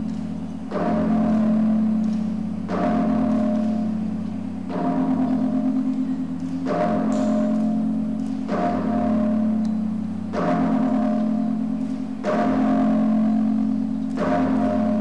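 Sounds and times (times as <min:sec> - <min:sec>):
deep ringing percussion strikes: 0:00.0 - 0:15.0.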